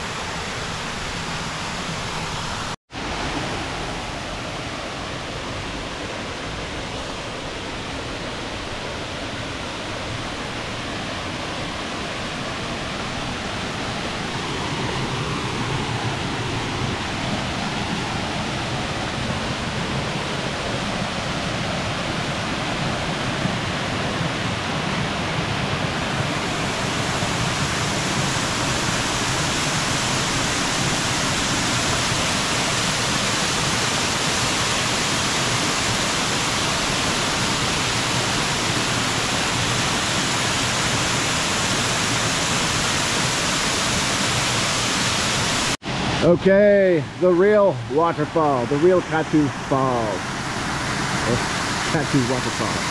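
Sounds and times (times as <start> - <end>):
waterfall splashing over boulders: 0.0 - 52.9.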